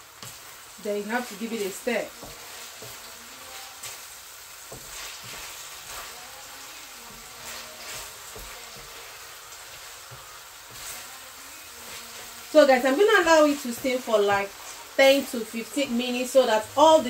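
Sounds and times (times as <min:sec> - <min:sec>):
food sizzling in a frying pan: 0:00.0 - 0:17.0
spatula scraping and tapping pan: 0:00.2 - 0:17.0.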